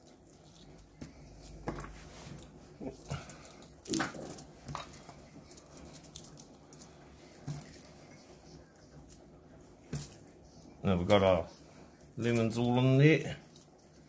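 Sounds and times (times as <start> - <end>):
rustles and taps on foil: 0.0 - 8.0, 9.0 - 11.4, 12.2 - 14.0.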